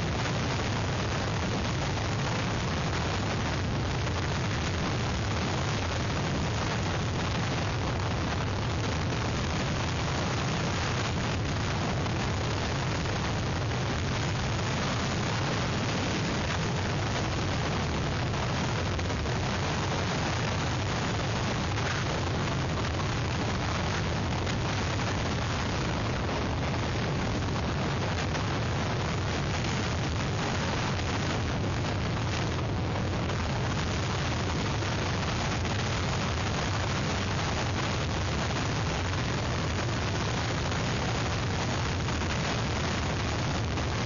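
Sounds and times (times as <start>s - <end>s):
wind blowing on microphone: 0.0s - 44.0s.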